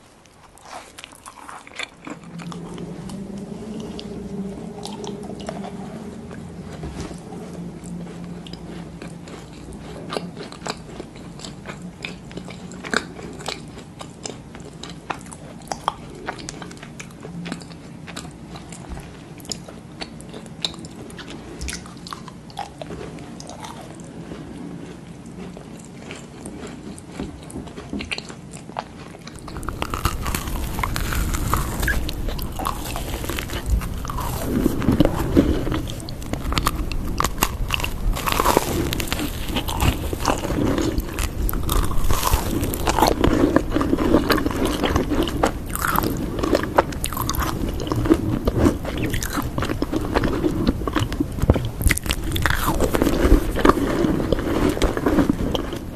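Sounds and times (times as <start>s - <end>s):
crunchy eating and chewing: 0.0s - 55.9s
faint steady hum: 0.0s - 55.9s.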